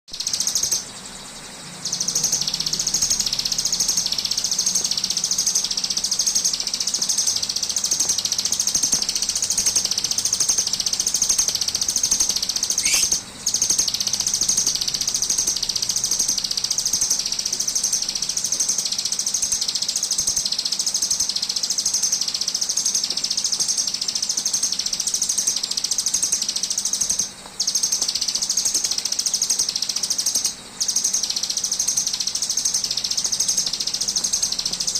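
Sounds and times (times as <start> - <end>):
bird buzzing trill: 0.1 - 34.9.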